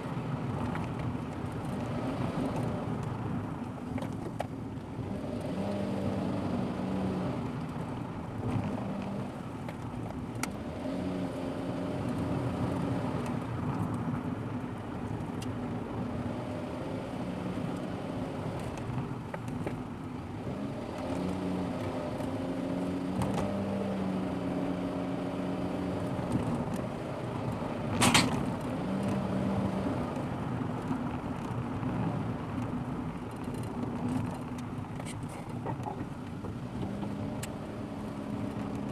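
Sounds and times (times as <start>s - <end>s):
car engine and tyre noise: 0.0s - 38.9s.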